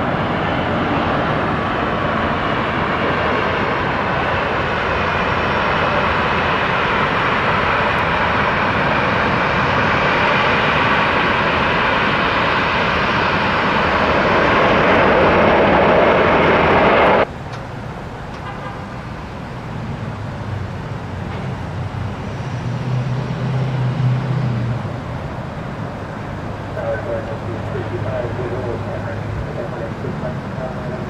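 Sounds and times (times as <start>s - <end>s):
jet engine roaring: 0.0s - 18.4s, 19.1s - 31.0s.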